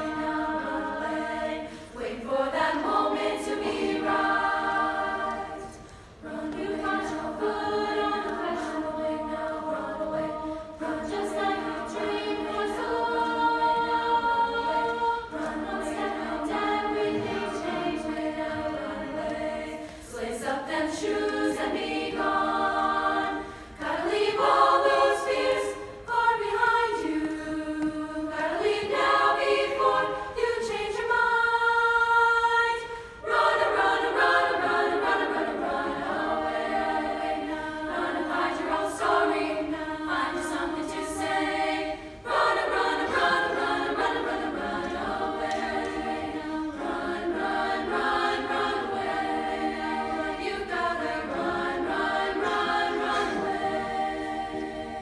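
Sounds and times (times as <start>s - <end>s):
women's choir singing in harmony: 0.0s - 55.0s.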